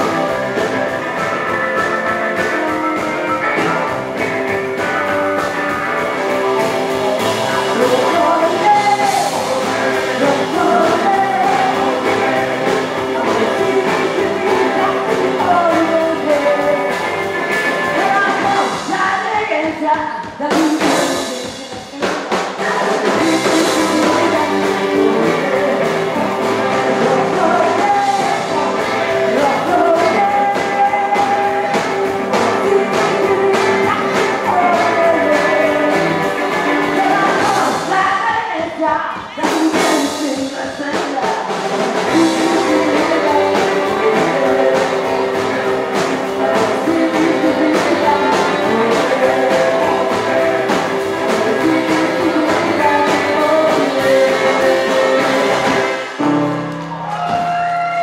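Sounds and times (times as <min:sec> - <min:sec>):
person singing: 0:00.0 - 0:58.0
rockabilly band playing: 0:00.0 - 0:58.0.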